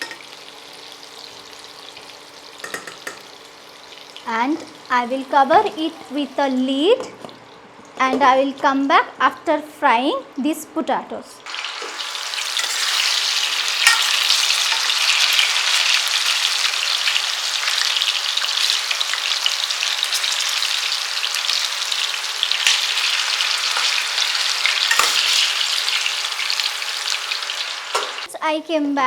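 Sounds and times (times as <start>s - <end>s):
potatoes sizzling in oil: 0.0s - 6.6s, 11.4s - 28.3s.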